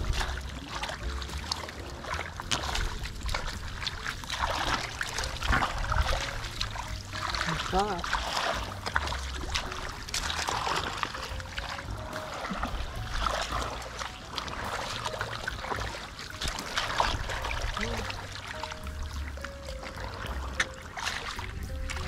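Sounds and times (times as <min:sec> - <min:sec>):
hands splashing in muddy water: 0:00.0 - 0:22.0
low steady rumble: 0:00.0 - 0:22.0.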